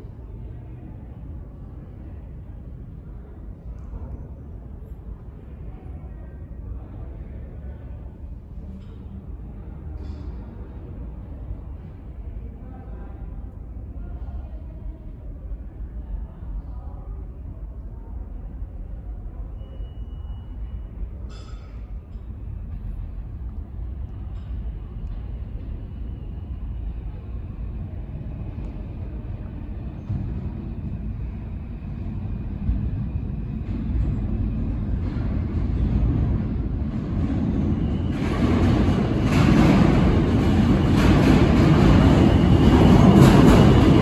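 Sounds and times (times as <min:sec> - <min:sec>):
subway train approaching: 0:00.0 - 0:44.0.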